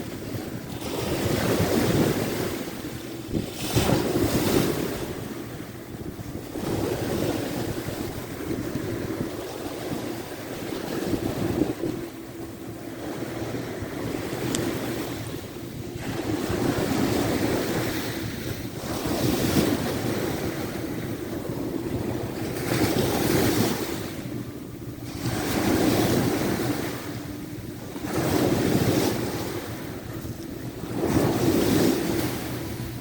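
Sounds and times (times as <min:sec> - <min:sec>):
waves washing onto shore: 0:00.0 - 0:33.0
wind buffeting microphone: 0:00.0 - 0:33.0.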